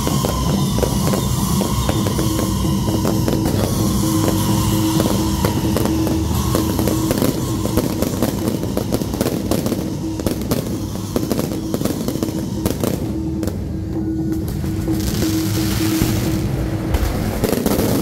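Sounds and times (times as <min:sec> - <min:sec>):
fireworks crackling pops: 0:00.0 - 0:13.6, 0:14.3 - 0:18.0.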